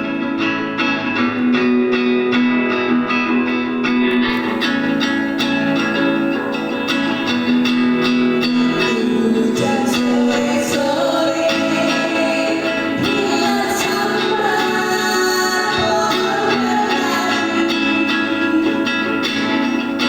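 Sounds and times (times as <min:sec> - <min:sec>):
guitar playing plucked chords: 0:00.0 - 0:20.0.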